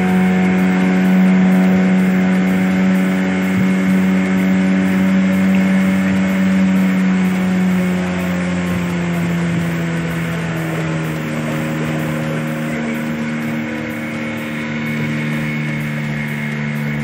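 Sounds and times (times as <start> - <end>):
boat motor droning: 0.0 - 17.0.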